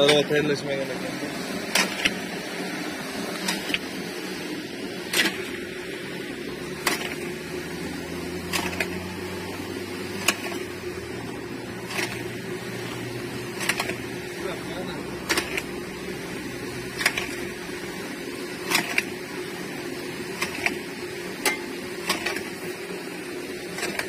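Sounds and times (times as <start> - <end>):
electric motors humming: 0.0 - 24.0.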